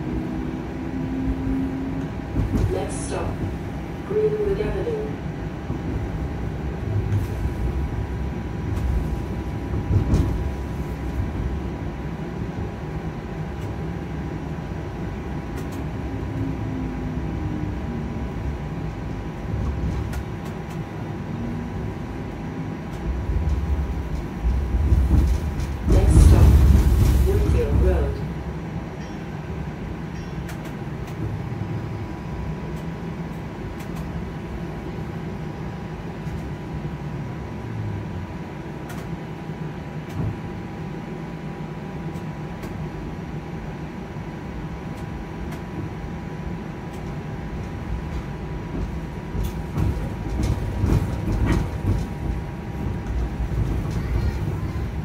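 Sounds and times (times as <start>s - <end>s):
streetcar wheels rumbling: 0.0s - 55.0s.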